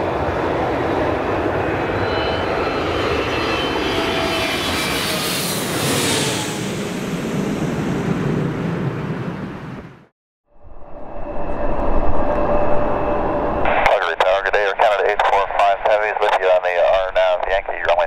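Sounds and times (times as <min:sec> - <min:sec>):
jet airliner passing overhead: 0:00.0 - 0:10.0, 0:10.6 - 0:18.0.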